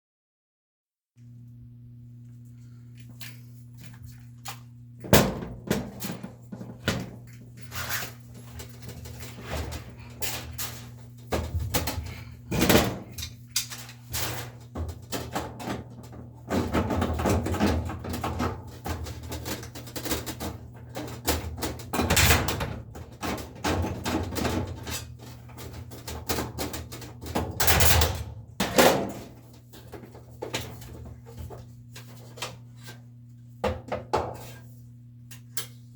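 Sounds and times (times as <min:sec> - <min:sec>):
steady low hum: 0:01.2 - 0:35.9.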